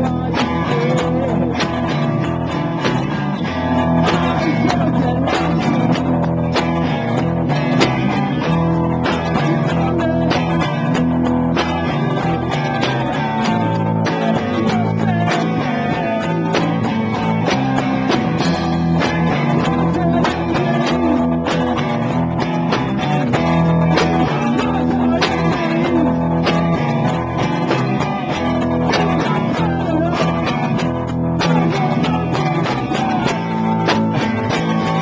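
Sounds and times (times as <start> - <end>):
bass guitar: 0.0 - 35.0
drum kit beat: 0.0 - 35.0
electric guitar: 0.0 - 35.0.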